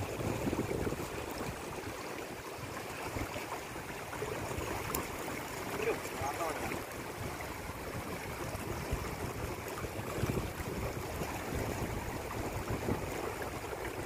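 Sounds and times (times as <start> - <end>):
fast-flowing stream water: 0.0 - 14.0.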